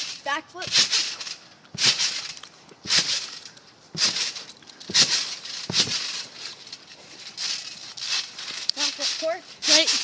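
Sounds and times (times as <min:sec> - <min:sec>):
trampoline springs jangling: 0:00.0 - 0:10.0.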